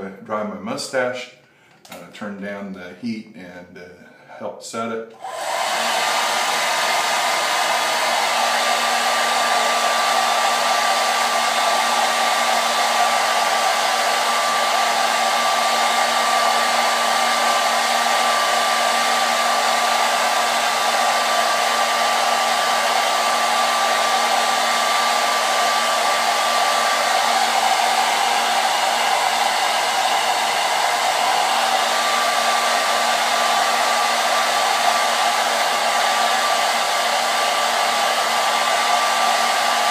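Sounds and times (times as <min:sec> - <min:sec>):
hair dryer blowing air: 0:05.1 - 0:39.9
hair dryer motor whine: 0:05.2 - 0:39.9.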